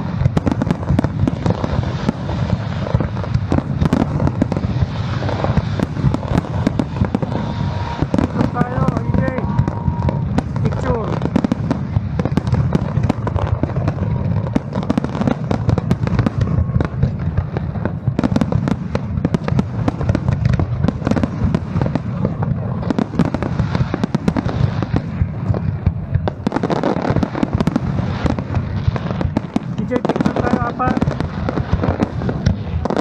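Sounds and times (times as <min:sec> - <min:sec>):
deep rumble of booms: 0:00.0 - 0:33.0
fireworks bangs and crackles: 0:00.0 - 0:33.0.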